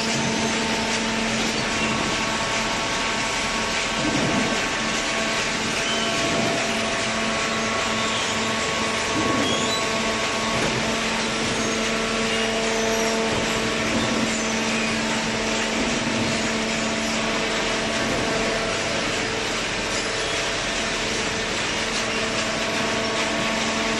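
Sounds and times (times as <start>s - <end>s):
baling press mechanical hum: 0.0s - 23.9s.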